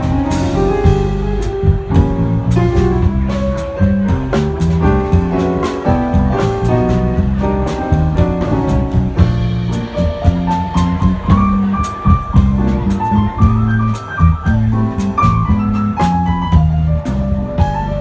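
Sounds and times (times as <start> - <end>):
drum kit with cymbal strokes: 0.0 - 18.0
electric bass walking: 0.0 - 18.0
keyboard chords: 0.0 - 18.0.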